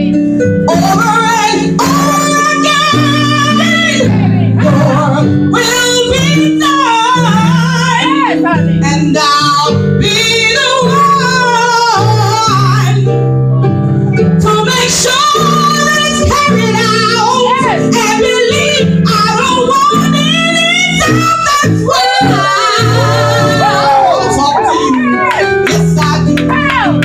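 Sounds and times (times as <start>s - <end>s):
instrumental accompaniment: 0.0s - 27.0s
woman singing gospel: 0.7s - 13.1s, 14.4s - 27.0s.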